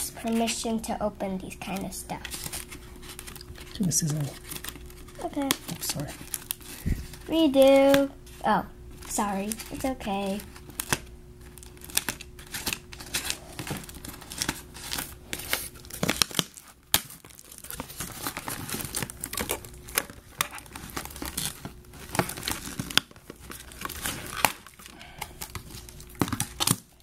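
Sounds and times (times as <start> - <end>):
packaging crinkling and tearing: 0.0 - 27.0.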